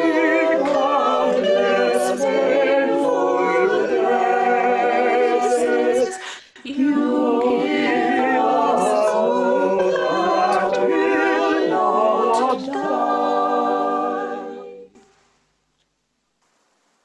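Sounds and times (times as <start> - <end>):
church choir singing unaccompanied: 0.0 - 15.0.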